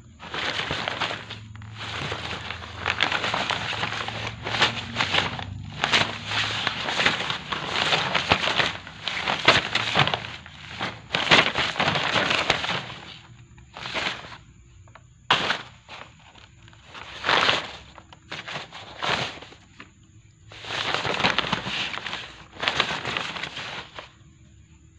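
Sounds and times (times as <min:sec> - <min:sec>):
stiff paper rustling and crackling: 0:00.0 - 0:24.2.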